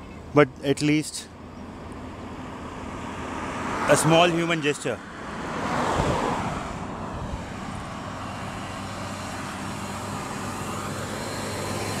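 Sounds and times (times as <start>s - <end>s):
highway traffic: 0.0s - 12.0s.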